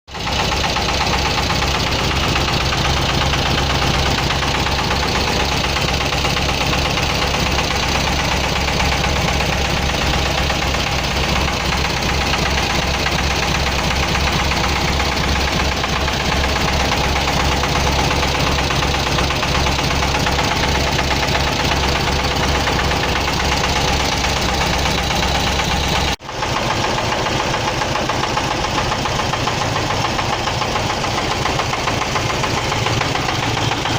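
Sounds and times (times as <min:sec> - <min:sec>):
car engine running with rattle: 0:00.1 - 0:33.9.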